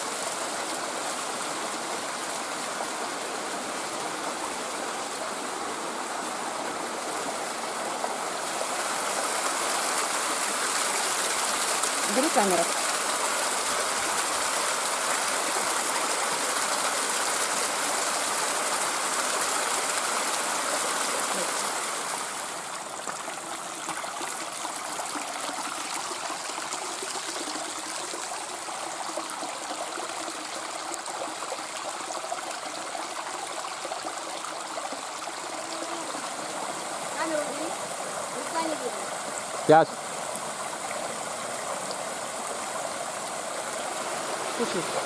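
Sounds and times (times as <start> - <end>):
waterfall rushing water: 0.0 - 45.0.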